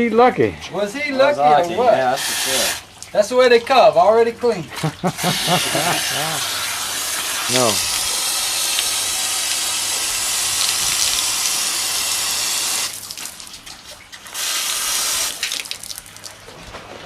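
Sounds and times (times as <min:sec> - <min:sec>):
water dribbling: 0:00.7 - 0:17.0
tap water running and splashing: 0:01.5 - 0:16.6.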